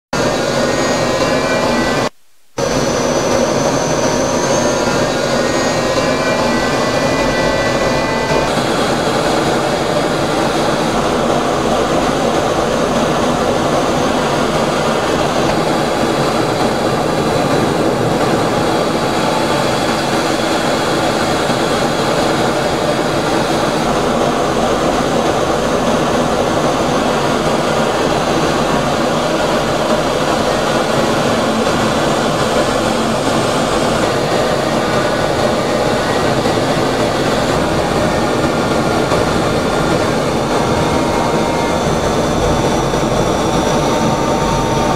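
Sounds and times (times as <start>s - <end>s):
jet engine roar: 0.2s - 44.9s.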